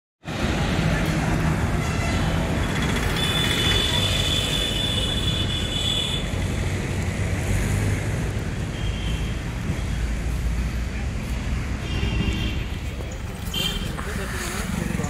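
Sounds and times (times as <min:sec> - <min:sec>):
rumble of passing vehicles: 0:00.2 - 0:15.0.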